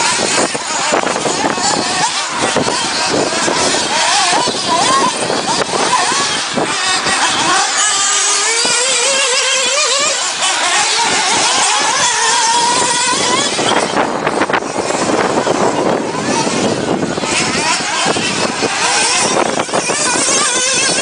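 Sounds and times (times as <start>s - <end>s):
remote-control car motor whine: 0.0s - 21.0s
steady rushing noise: 0.0s - 21.0s.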